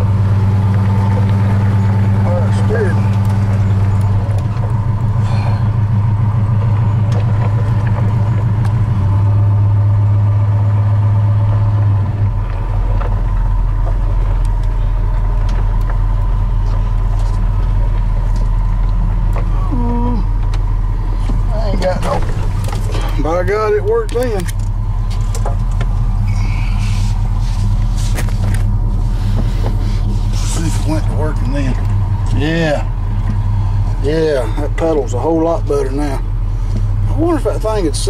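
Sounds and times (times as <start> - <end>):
truck engine running while driving: 0.0 - 38.0.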